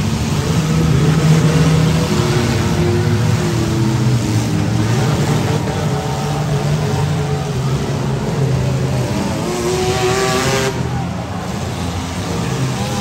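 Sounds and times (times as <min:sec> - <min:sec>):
car engines running and revving: 0:00.0 - 0:13.0.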